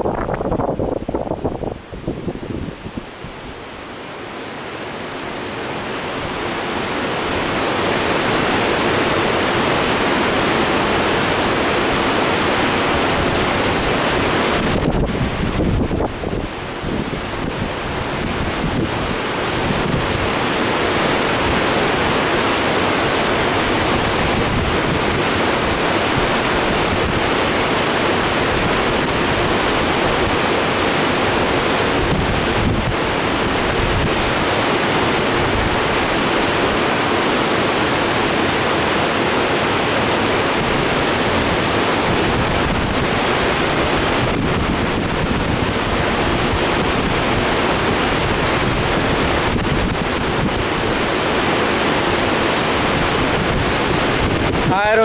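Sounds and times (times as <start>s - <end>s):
water rushing over rapids: 0.0s - 55.0s.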